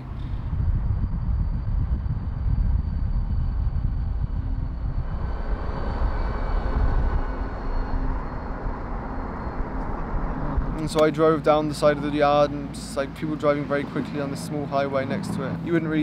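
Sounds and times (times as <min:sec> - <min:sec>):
car road and wind rumble: 0:00.0 - 0:16.0.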